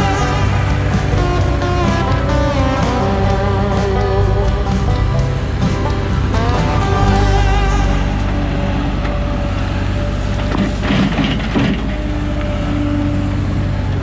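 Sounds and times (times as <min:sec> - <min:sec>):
guitar music: 0:00.0 - 0:11.8
machine low rumble: 0:00.0 - 0:14.0.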